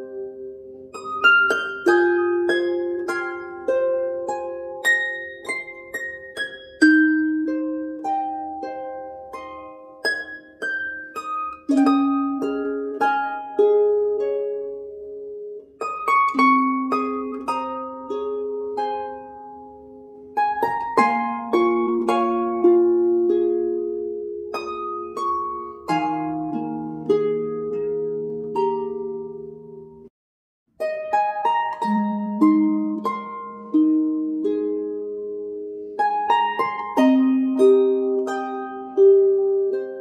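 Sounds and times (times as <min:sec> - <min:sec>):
plucked-string melody with chords: 0:00.0 - 0:30.1, 0:30.8 - 0:40.0.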